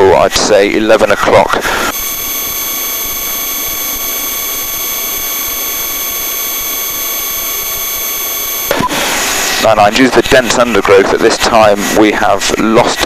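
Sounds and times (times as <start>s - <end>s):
helicopter turbine engine running: 1.4s - 13.0s.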